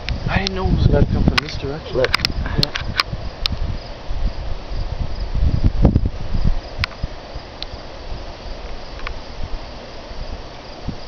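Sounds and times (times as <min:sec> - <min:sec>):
crickets chirping: 0:00.0 - 0:11.0
wind buffeting microphone: 0:00.0 - 0:11.0.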